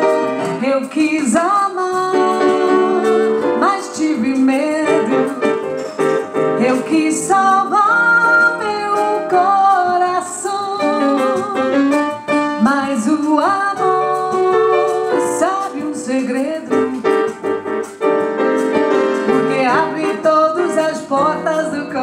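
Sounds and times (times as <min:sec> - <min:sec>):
bossa nova piano: 0:00.0 - 0:22.0
woman singing: 0:00.4 - 0:05.6, 0:06.6 - 0:17.4, 0:19.2 - 0:22.0.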